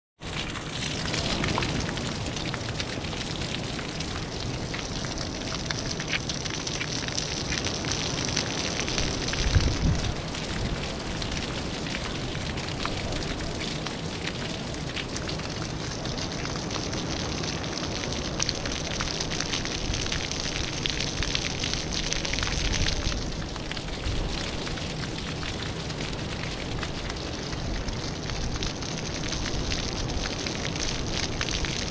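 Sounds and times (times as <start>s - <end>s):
fountain jets splashing on water: 0.2s - 31.9s.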